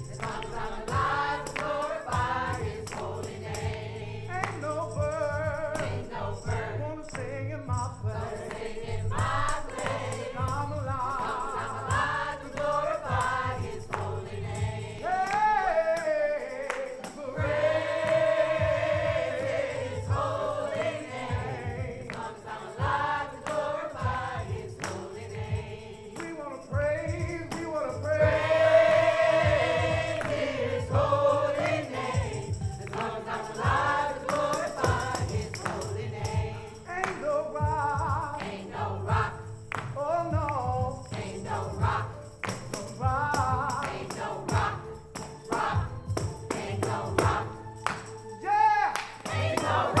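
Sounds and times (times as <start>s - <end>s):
choir singing: 0.0s - 7.0s, 8.0s - 26.7s, 27.4s - 39.5s, 41.0s - 42.3s, 43.6s - 50.0s
musical accompaniment: 0.0s - 50.0s.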